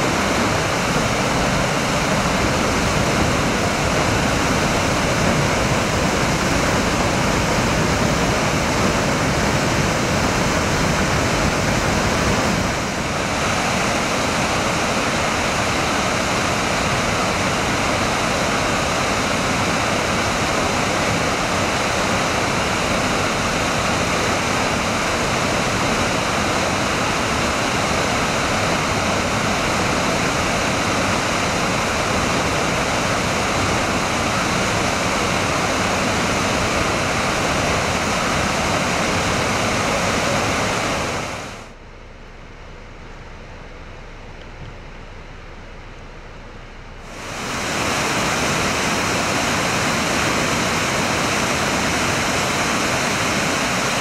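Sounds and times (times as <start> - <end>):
waterfall rushing: 0.0 - 41.8, 47.0 - 54.0.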